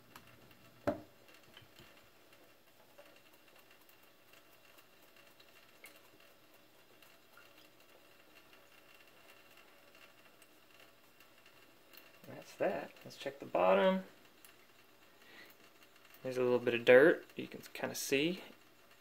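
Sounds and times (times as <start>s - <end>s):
trickle of tap water: 0.0s - 19.0s.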